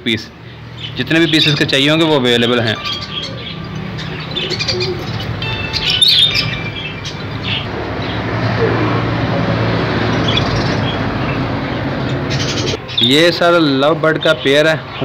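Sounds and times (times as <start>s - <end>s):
caged birds chirping: 0.0s - 15.0s
steady background noise: 0.0s - 15.0s.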